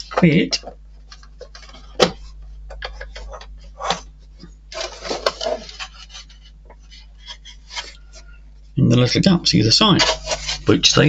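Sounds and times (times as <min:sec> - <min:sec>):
plastic parts scraping: 0:00.0 - 0:08.4, 0:09.8 - 0:11.0.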